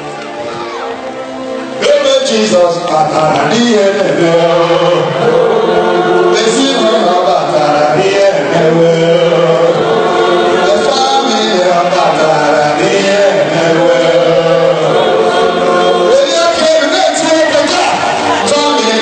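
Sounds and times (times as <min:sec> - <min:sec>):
choir and congregation singing: 0:00.0 - 0:19.0.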